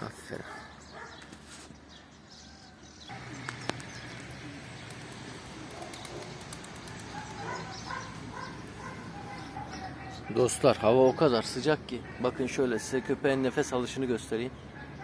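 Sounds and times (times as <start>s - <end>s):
outdoor background rush: 0.0s - 15.0s.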